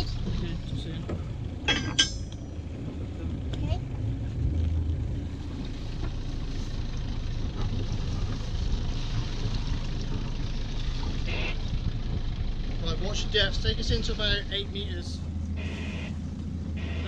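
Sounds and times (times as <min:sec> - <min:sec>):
boat engine rumble: 0:00.0 - 0:17.0
water wash: 0:00.0 - 0:17.0.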